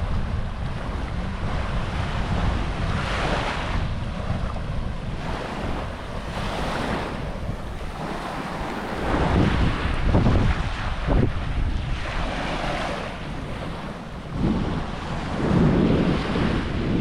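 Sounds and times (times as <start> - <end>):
small waves on sandy beach: 0.0 - 17.0
wind rumbling on microphone: 0.0 - 17.0.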